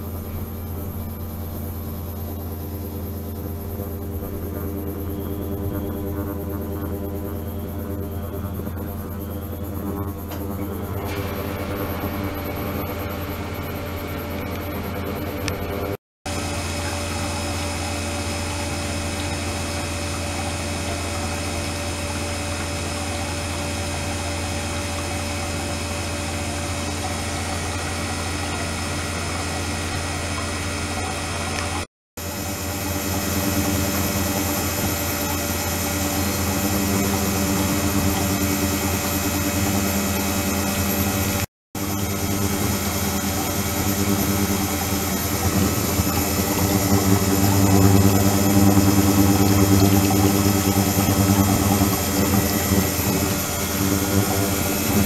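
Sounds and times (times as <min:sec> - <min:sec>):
ultrasonic cleaner pump hum: 0:00.0 - 0:55.0.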